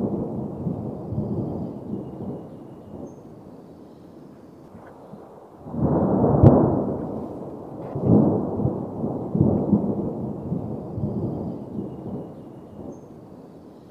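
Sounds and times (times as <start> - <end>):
thunder rumbling and cracking: 0.0 - 3.1, 4.7 - 13.0.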